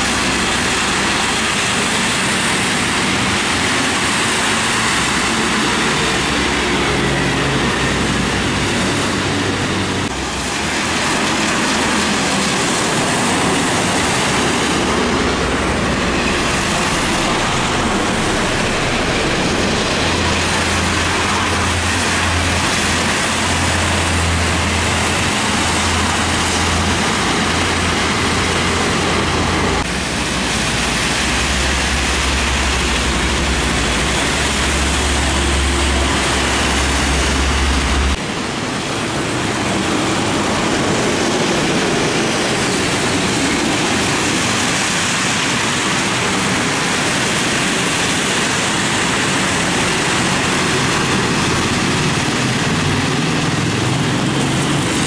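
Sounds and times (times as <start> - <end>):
truck engines droning: 0.0 - 55.0
tyres hissing on wet road: 0.0 - 55.0.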